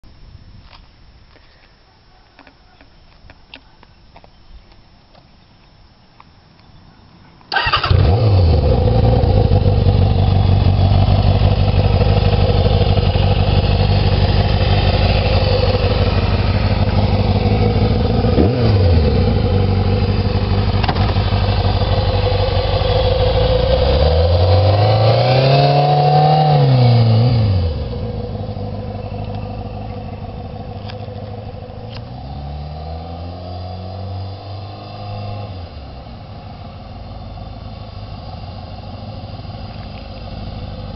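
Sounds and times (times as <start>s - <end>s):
motorcycle engine starting and revving: 7.5s - 40.9s.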